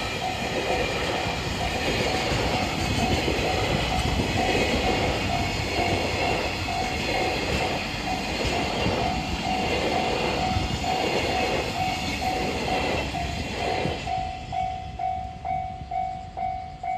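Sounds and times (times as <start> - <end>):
crossing warning bell ringing: 0.0 - 16.9
freight train rumbling past: 0.0 - 16.9.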